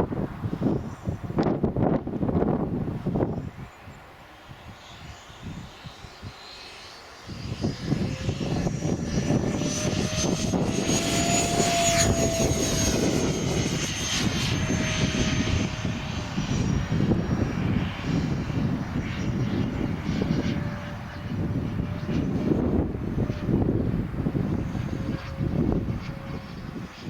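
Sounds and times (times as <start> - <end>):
wind buffeting microphone: 0.0 - 6.6, 7.2 - 27.0
electric ducted fans whining: 0.0 - 27.0.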